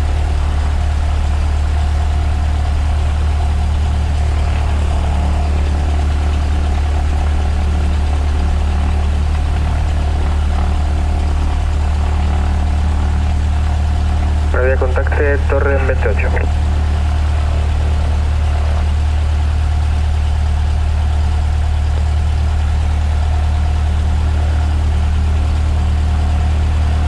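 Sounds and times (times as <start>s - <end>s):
light aircraft engine droning: 0.0s - 27.0s.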